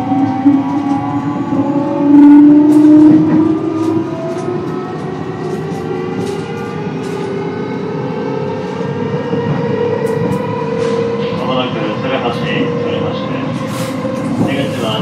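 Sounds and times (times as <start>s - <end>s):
electric train motors whining: 0.0s - 15.0s
train running rumble: 0.0s - 15.0s.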